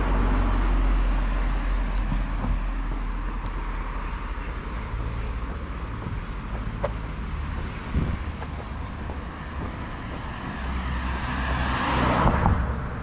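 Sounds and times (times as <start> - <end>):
vehicle passing with tyre noise: 0.0 - 13.0.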